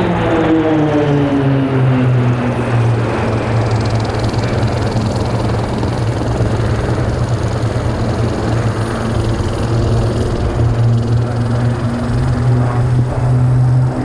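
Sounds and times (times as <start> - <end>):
broad rushing noise: 0.0 - 14.0
propeller aircraft flying past: 0.0 - 14.0.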